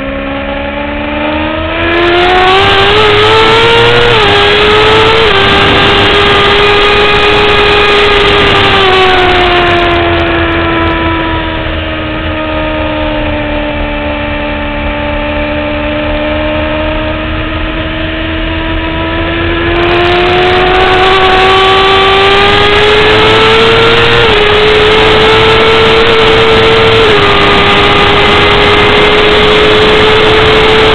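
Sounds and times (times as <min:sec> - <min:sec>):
motorcycle engine at speed: 0:00.0 - 0:30.9.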